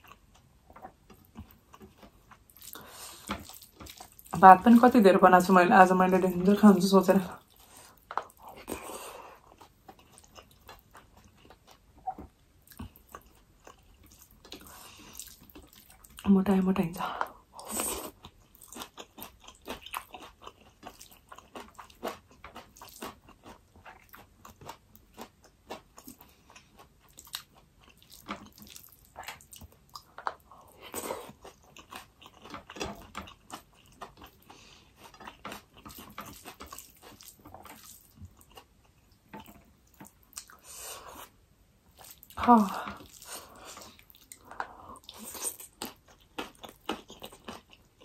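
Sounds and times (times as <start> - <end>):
chewing and biting food: 0.0 - 4.4, 7.4 - 16.3, 17.6 - 48.0.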